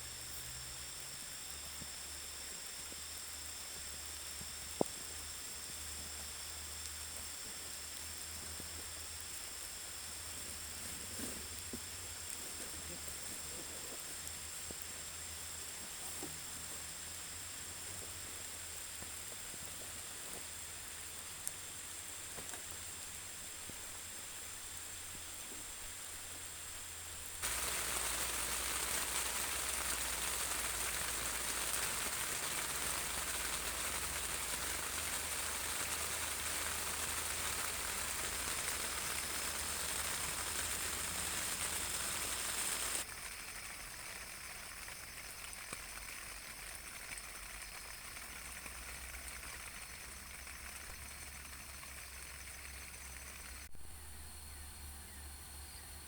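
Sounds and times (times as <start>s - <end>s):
steady rain falling: 0.0s - 53.7s.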